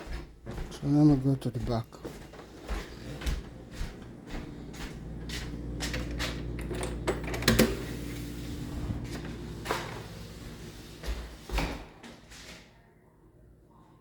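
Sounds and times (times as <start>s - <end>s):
footsteps: 0.0s - 7.0s, 7.7s - 12.7s
steady low hum: 0.8s - 12.0s.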